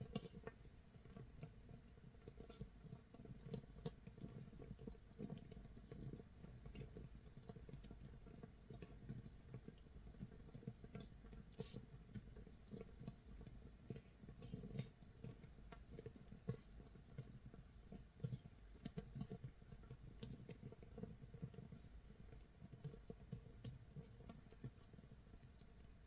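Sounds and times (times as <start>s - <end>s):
fermenting mash bubbles popping: 0.0s - 26.0s.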